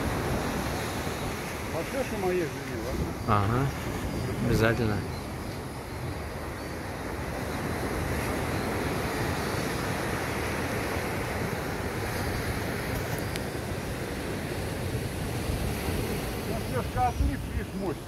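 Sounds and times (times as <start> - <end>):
surf on rocky shore: 0.0 - 18.0.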